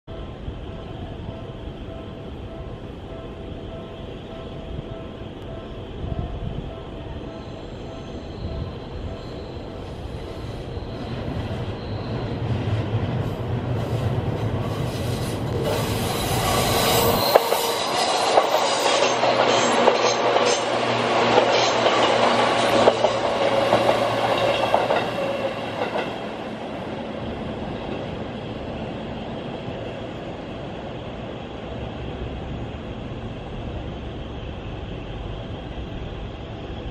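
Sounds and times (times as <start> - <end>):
electric train passing: 0.1 - 36.9.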